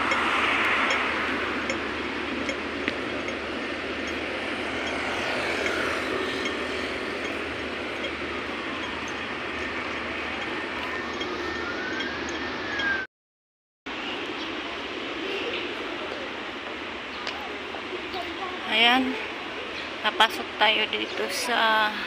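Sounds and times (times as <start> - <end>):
passing traffic hum: 0.0 - 13.1, 13.9 - 22.0.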